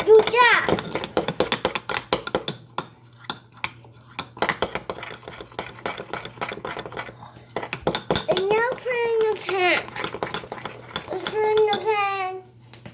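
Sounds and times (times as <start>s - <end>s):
utensil scraping mixing bowl: 0.0s - 12.4s.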